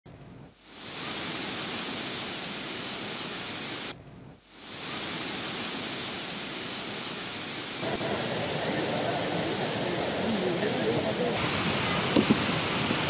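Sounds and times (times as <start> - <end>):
floodwater rushing over rocks: 0.5 - 13.0.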